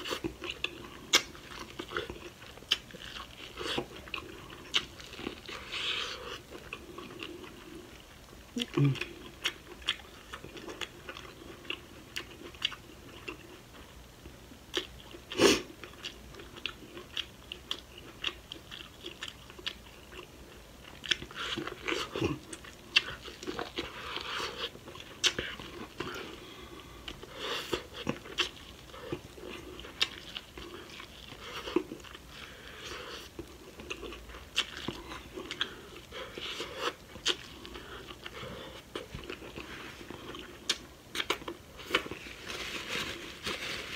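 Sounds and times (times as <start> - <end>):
person chewing corn: 0.0 - 43.9.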